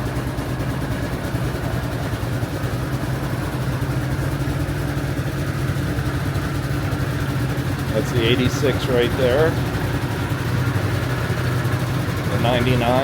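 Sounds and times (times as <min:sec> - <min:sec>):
scooter engine idling: 0:00.0 - 0:13.0.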